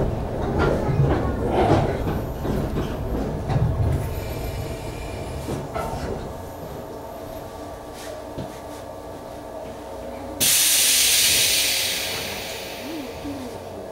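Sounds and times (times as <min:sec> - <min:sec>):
steady train hum: 0:00.0 - 0:13.9
train rumble and wheel noise: 0:00.0 - 0:13.9.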